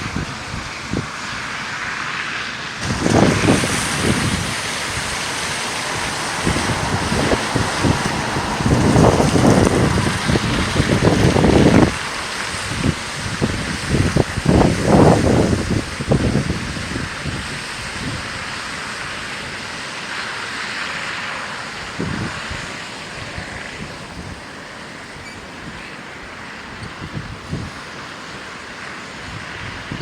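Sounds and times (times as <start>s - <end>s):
wind buffeting microphone: 0.0s - 2.0s, 2.8s - 19.6s, 21.7s - 30.0s
steady rushing hiss: 0.0s - 30.0s.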